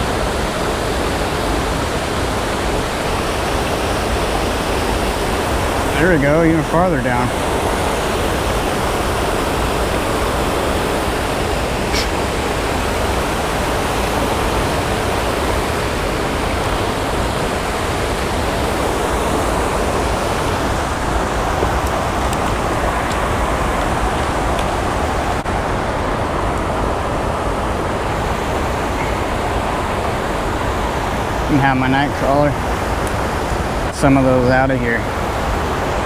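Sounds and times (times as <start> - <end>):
water rushing over waterfall: 0.0 - 36.0.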